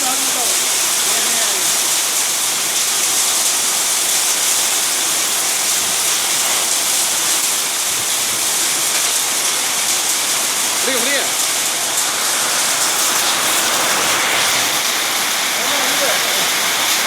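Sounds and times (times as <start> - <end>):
heavy hail and rain: 0.0 - 17.0.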